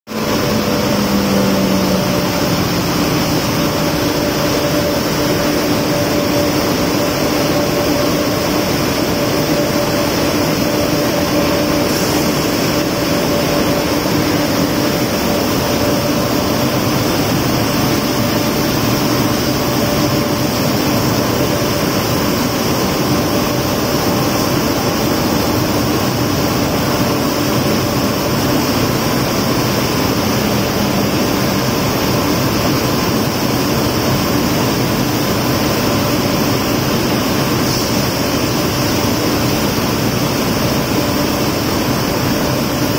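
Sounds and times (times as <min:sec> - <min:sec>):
centrifugal machine running: 0:00.1 - 0:42.9.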